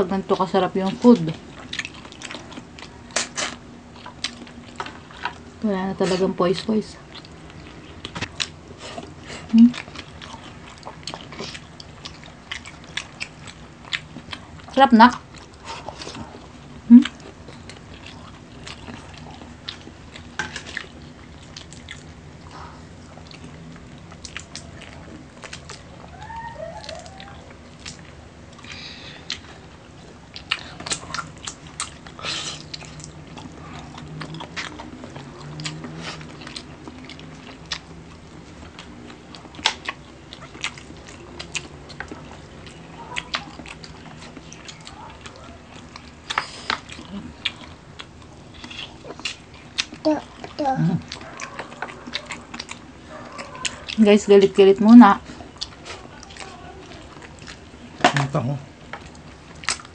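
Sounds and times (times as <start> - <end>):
chewing and crunching food: 0.0 - 59.9.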